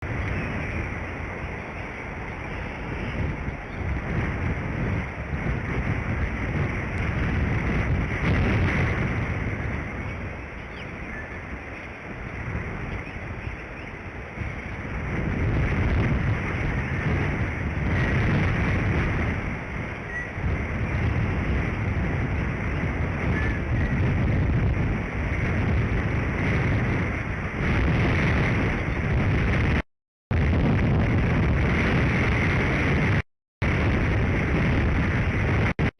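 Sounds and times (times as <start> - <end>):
wind gusting on microphone: 0.0 - 35.9.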